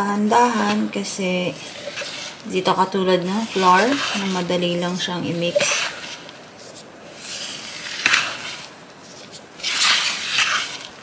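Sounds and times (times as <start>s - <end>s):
spoon scraping bowl: 0.4s - 11.0s.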